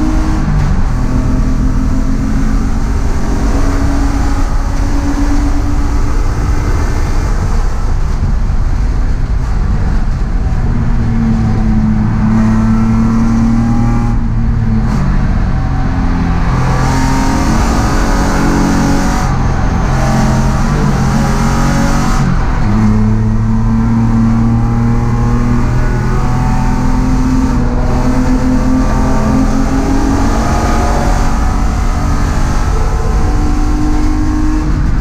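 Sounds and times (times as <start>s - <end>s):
race car engine under load: 0.0s - 35.0s
road and wind noise: 0.0s - 35.0s.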